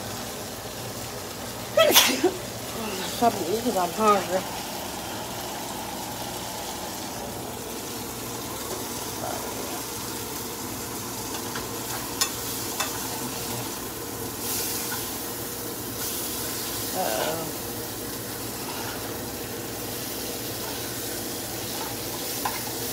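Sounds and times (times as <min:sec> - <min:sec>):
fish frying in a pan: 0:00.0 - 0:22.9.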